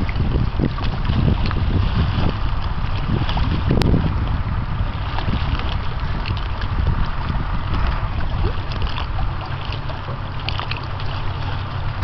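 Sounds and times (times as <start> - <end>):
choppy waves: 0.0 - 12.0
wind buffeting microphone: 0.0 - 12.0.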